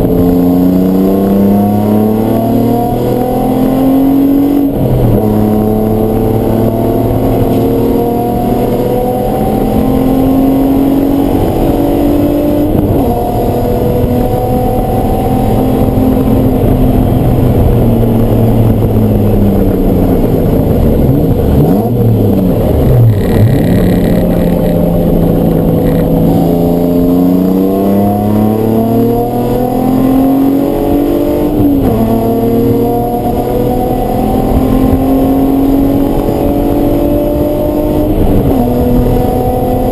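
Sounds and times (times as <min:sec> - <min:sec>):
race car engine revving and shifting: 0:00.0 - 0:39.9.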